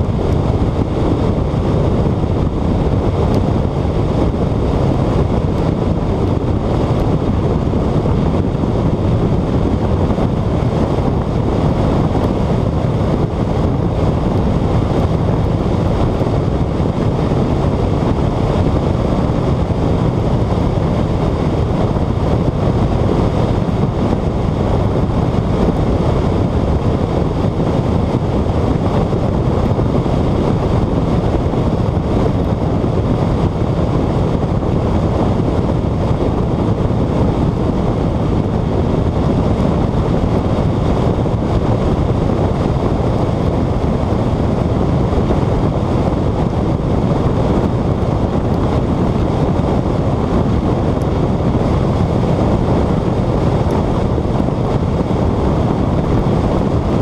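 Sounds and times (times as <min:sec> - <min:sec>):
car engine and tyre noise: 0:00.0 - 0:57.0
wind noise on microphone: 0:00.0 - 0:57.0.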